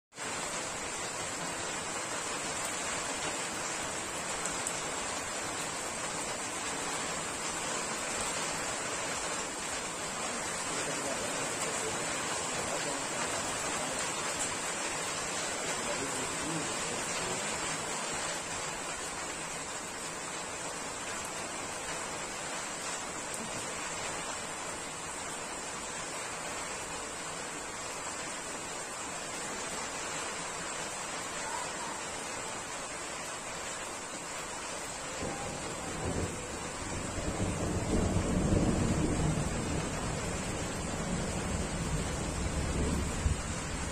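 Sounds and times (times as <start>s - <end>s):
heavy rain falling: 0.1s - 43.9s.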